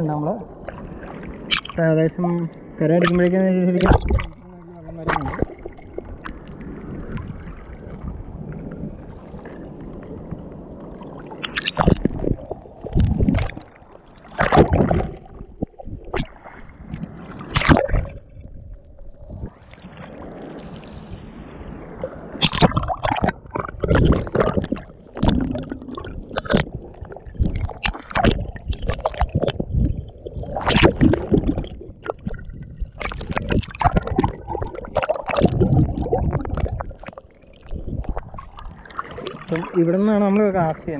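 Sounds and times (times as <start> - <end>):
sea water sloshing and splashing: 0.0 - 40.9
small waves slapping: 0.0 - 40.9
water gurgling: 0.0 - 40.9.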